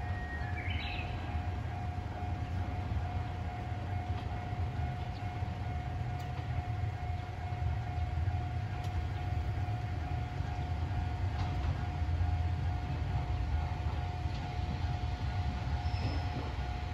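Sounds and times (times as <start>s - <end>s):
level-crossing warning bell: 0.0s - 16.9s.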